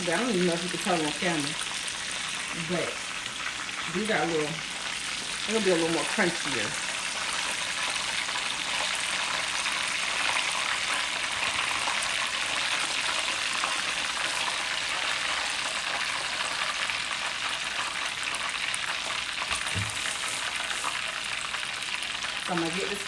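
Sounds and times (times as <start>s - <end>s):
chicken frying in hot oil: 0.0s - 23.0s.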